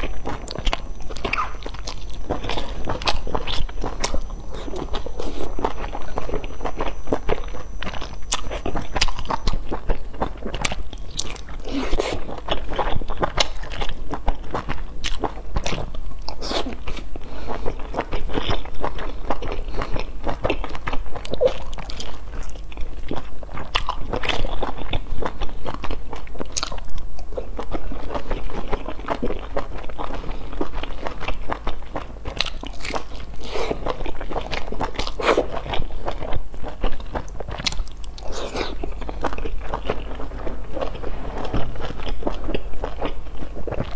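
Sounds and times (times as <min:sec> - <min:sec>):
person chewing dumplings: 0:00.0 - 0:43.9.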